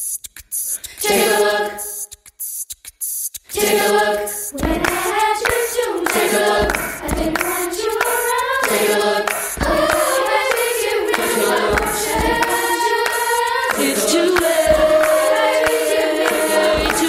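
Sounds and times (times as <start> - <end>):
choir singing: 1.0 - 2.0, 3.6 - 17.0.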